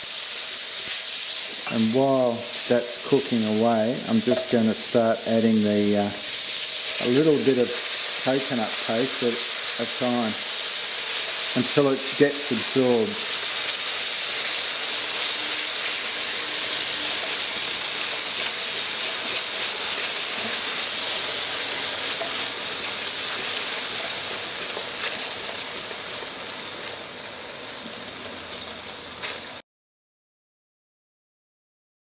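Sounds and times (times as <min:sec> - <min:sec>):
curry paste sizzling in oil: 0:00.0 - 0:29.6.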